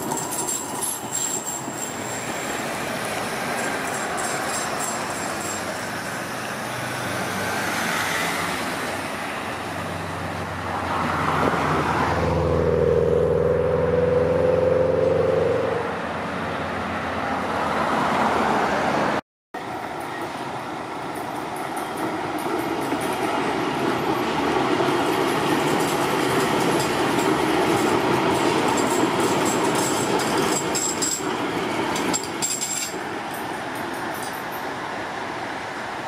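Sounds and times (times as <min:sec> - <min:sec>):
road traffic: 0:00.0 - 0:36.0
tram on steel rails: 0:00.0 - 0:36.0.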